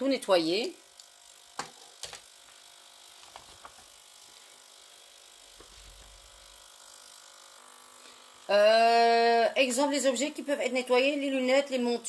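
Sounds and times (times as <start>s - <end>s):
ultrasonic cleaner buzzing: 0.1s - 12.0s.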